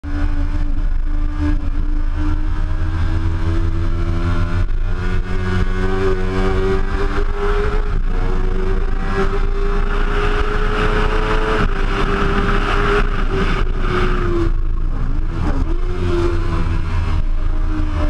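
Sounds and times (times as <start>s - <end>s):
motorcycle engine at high revs: 0.1s - 18.0s.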